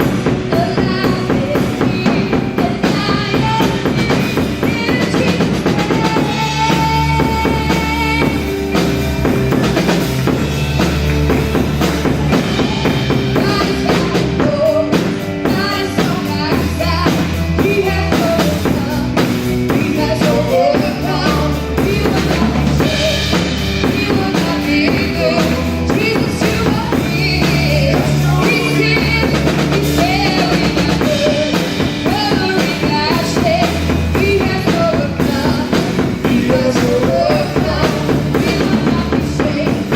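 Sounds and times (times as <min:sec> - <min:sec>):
bass guitar: 0:00.0 - 0:39.9
drum kit beat: 0:00.0 - 0:39.9
keyboard: 0:00.0 - 0:39.9
person singing: 0:00.0 - 0:39.9.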